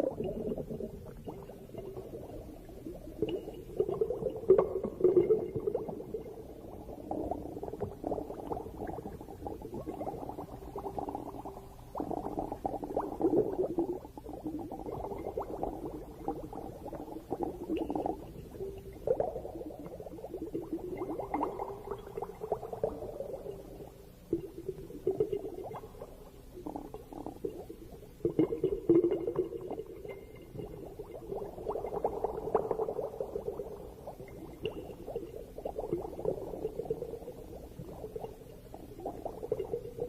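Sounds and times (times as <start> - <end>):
bubbles gurgling underwater: 0.0 - 40.0.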